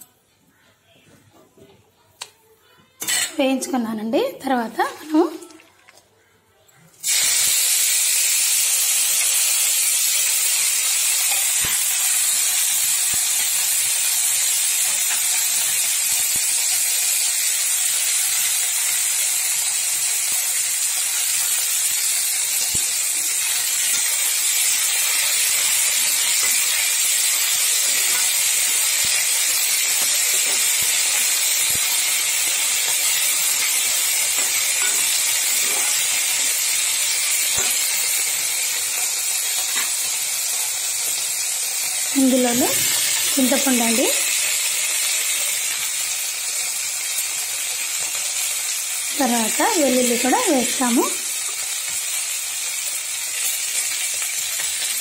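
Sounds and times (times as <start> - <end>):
leaves sizzling in hot oil: 7.0 - 55.0.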